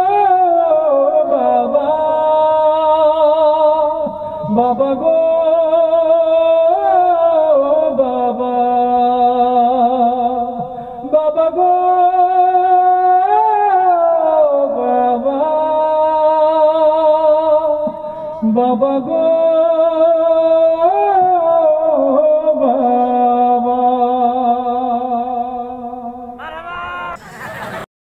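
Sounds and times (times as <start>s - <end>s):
man singing into microphone: 0.0s - 27.2s.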